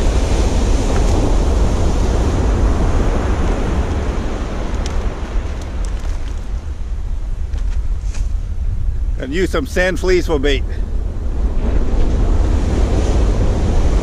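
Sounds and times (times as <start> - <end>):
ocean surf breaking: 0.0 - 7.0, 9.2 - 14.0
wind buffeting microphone: 0.0 - 14.0.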